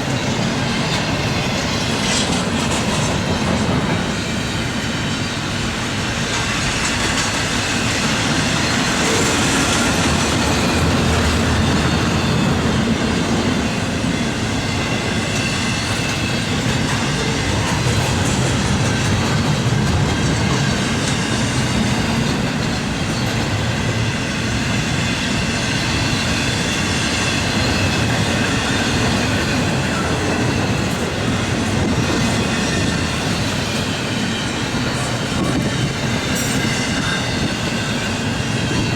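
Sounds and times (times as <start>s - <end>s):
freight train wheels clacking: 0.0s - 38.9s
steel wheels ringing on rail: 0.0s - 38.9s.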